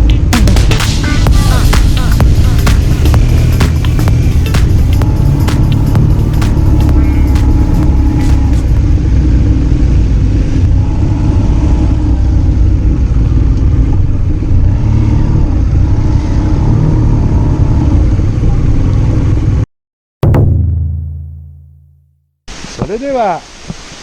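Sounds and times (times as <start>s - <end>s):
wind rumble: 0.0s - 19.6s
motorcycle engine at road speed: 0.0s - 22.1s.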